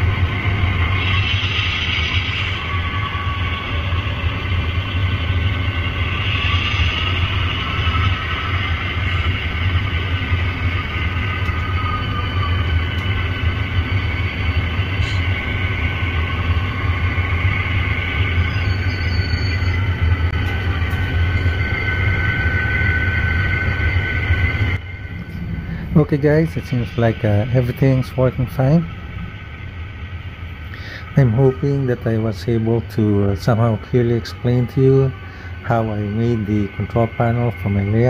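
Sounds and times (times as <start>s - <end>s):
diesel locomotive rumbling: 0.0s - 38.0s.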